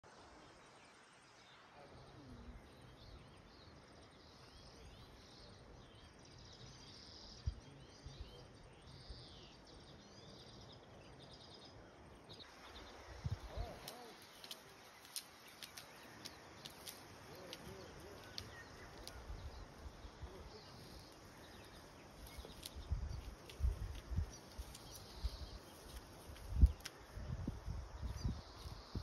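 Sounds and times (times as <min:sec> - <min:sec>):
faint birdsong chirping: 0:00.0 - 0:29.0.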